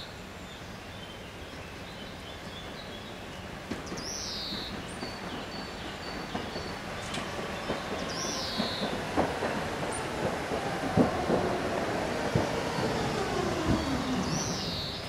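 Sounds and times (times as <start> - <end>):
tram wheels rumbling and clicking: 1.4 - 15.0.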